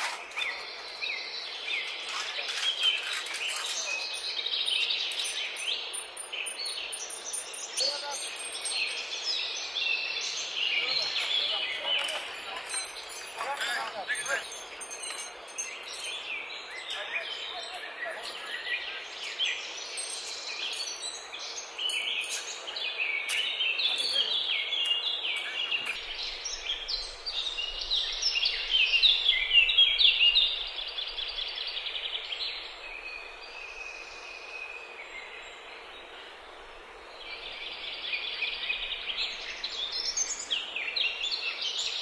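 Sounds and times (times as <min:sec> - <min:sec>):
birds chirping and calling: 0:00.0 - 0:36.4
steady outdoor hiss: 0:00.0 - 0:42.0.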